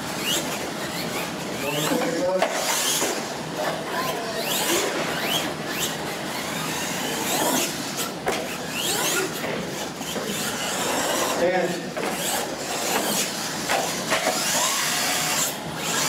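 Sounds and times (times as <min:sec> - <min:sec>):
toy truck motor whining: 0:00.2 - 0:11.5, 0:12.1 - 0:16.0.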